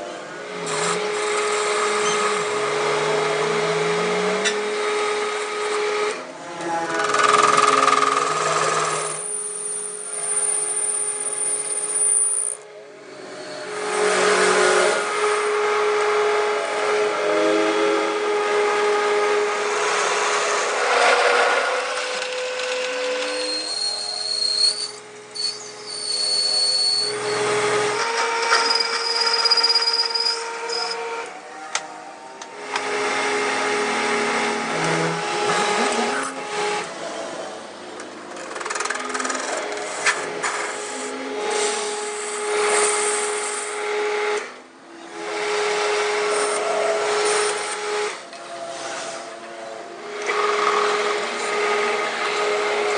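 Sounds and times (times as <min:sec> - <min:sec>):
machine hum with whine: 0:00.0 - 0:52.9
metal grinding or cutting: 0:00.4 - 0:52.9.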